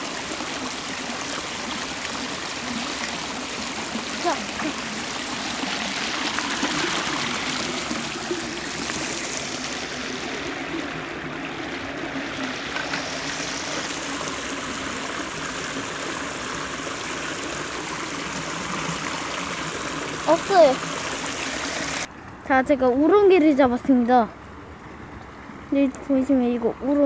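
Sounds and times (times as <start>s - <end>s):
stream flowing over rocks: 0.0s - 22.1s.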